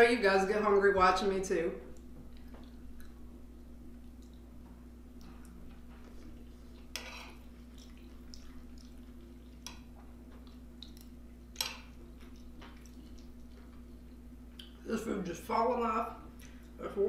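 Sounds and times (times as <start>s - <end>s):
soft squishy food noises: 1.9s - 15.0s, 16.2s - 17.0s.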